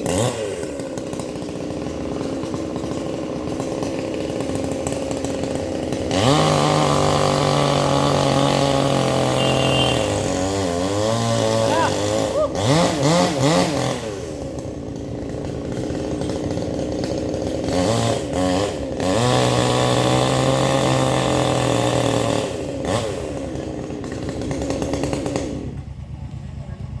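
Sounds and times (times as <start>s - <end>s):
chainsaw engine revving: 0.0s - 26.9s.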